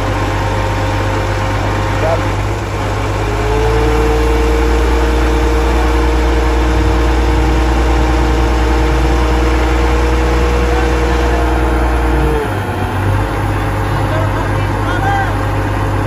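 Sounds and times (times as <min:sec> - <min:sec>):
engine running with low rumble: 0:00.0 - 0:16.0.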